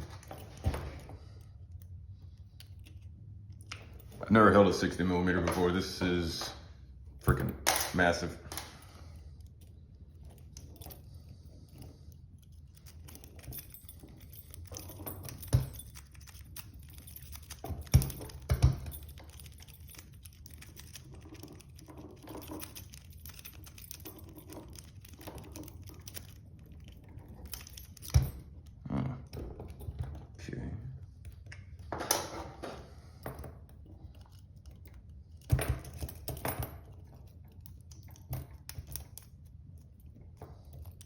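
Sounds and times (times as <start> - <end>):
padlock clicking and rattling: 0.0 - 4.2, 7.0 - 30.4, 31.1 - 41.0.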